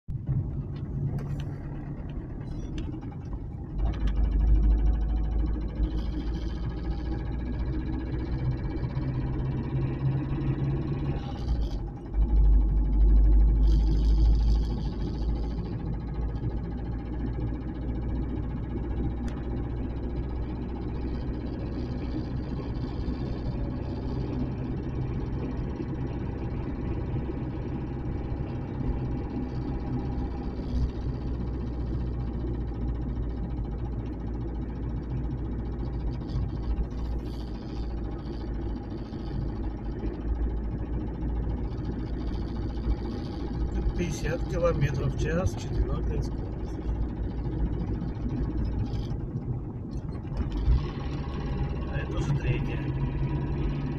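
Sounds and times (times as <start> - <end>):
car engine and road noise: 0.0 - 53.9
low rumble: 0.0 - 53.9.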